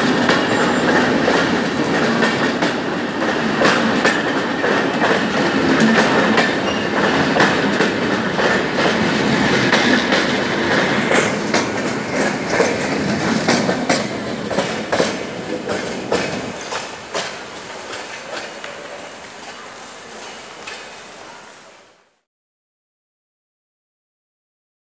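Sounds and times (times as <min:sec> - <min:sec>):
train wheels clacking over rail joints: 0:00.0 - 0:21.4
train rumble: 0:00.0 - 0:22.1.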